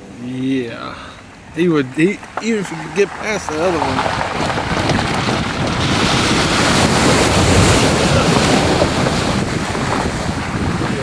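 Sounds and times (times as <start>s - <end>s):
water surging against vehicle: 0.0s - 11.0s.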